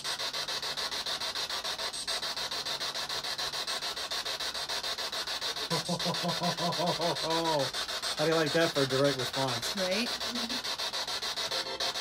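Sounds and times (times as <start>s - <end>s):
radio static pulsing: 0.0s - 12.0s.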